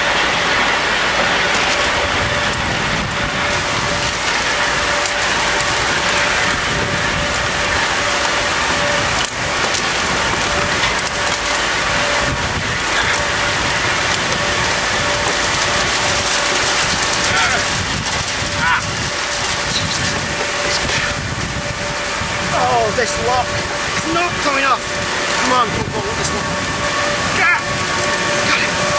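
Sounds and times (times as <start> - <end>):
rollercoaster rattling on track: 0.0 - 28.9
wind on microphone: 1.2 - 28.9.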